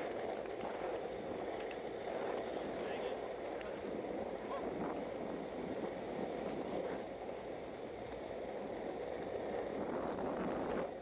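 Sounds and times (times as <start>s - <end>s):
skateboard wheels rolling on pavement: 0.0s - 11.0s.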